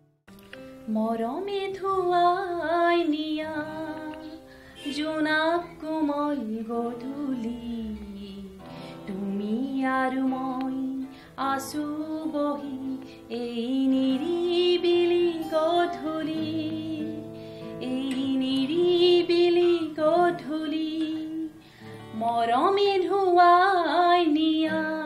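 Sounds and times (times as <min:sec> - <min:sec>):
strummed acoustic guitar: 0:00.3 - 0:25.0
woman singing: 0:00.8 - 0:25.0.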